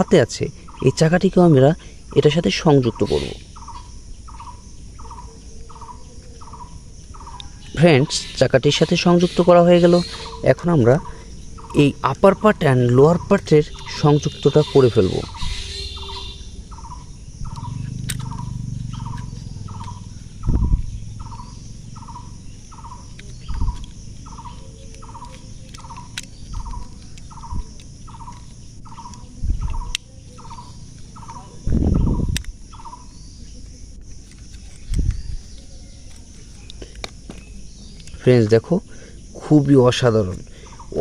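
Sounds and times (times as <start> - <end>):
repeated short chirping call: 2.1 - 38.6.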